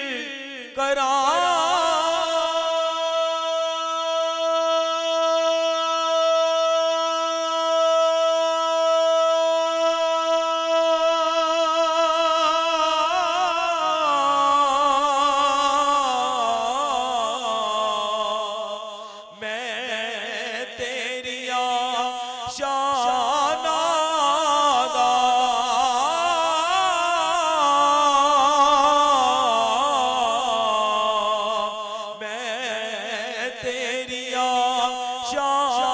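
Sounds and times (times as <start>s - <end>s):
man singing over microphone: 0.0s - 35.9s.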